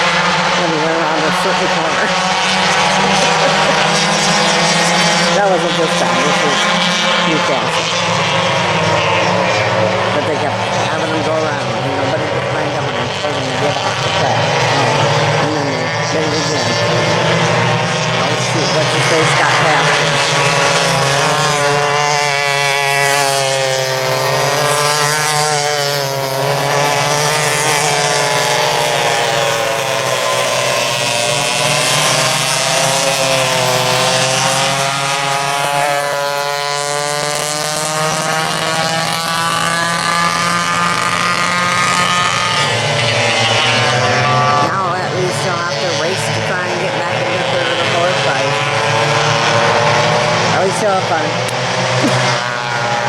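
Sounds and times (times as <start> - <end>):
go-kart engines racing: 0.0 - 53.0.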